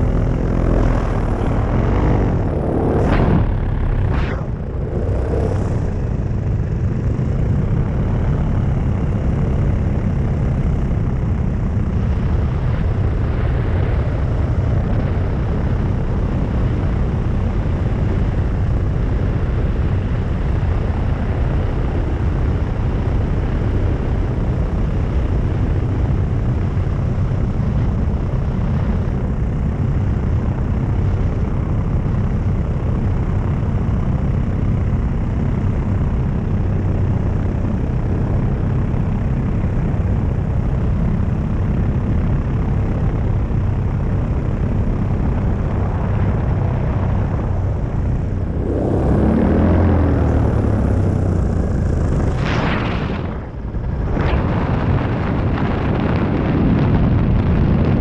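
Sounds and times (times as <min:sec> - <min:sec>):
paramotor engine droning: 0:00.0 - 0:58.0.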